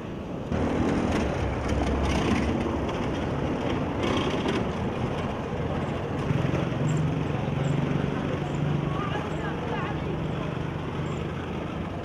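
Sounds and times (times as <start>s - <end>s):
street traffic noise: 0.0s - 12.0s
car driving on stone road: 0.3s - 12.0s.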